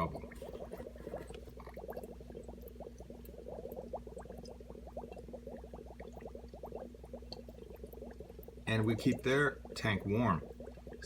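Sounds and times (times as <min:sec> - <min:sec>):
air bubbles rising through water: 0:00.0 - 0:11.0.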